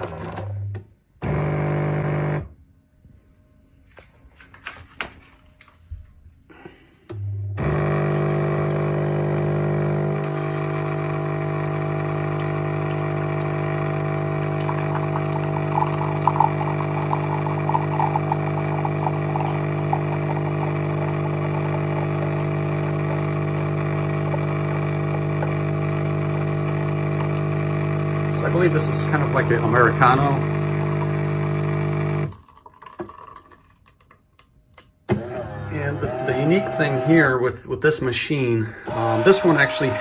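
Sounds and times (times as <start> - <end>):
coffee machine humming: 0.0 - 2.5, 7.1 - 33.6, 35.1 - 37.5, 38.7 - 40.0.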